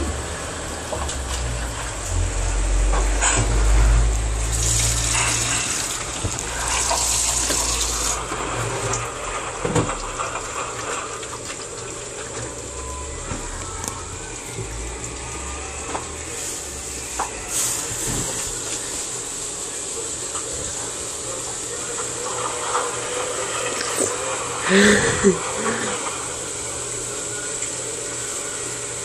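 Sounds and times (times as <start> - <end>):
water gushing in washing machine: 0.0 - 29.0.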